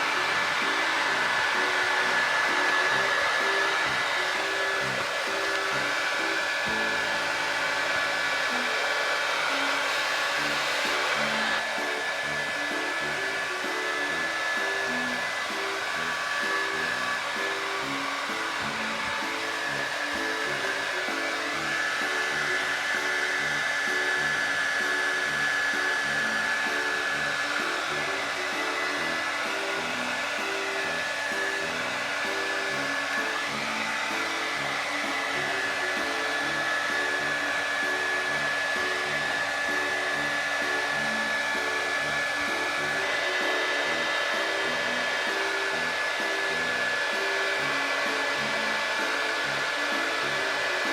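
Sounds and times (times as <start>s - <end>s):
hair dryer running: 0.0s - 50.9s
light background music: 0.0s - 50.9s.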